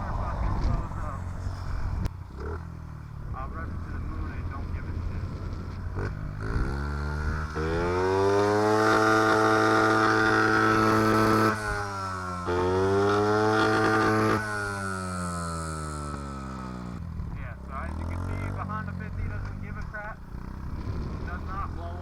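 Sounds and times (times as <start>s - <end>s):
small motorcycle engine revving: 0.0s - 22.0s.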